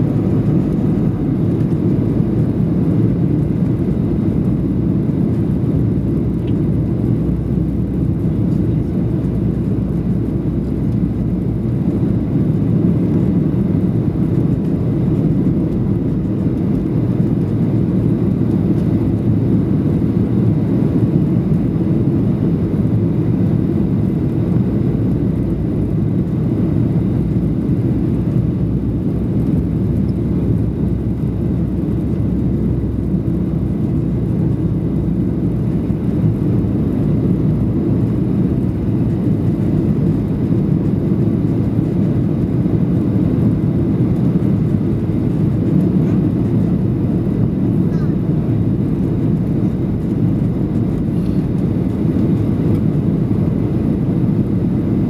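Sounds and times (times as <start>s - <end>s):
aircraft cabin engine rumble: 0.0s - 55.0s
airflow over fuselage: 0.0s - 55.0s.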